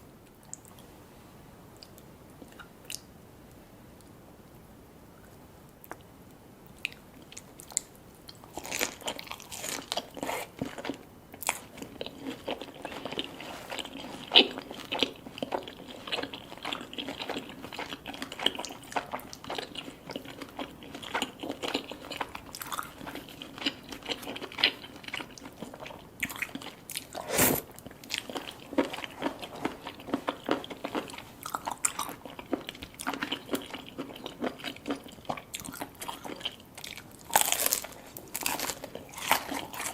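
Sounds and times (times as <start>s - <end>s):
crunchy chewing: 6.8s - 39.9s.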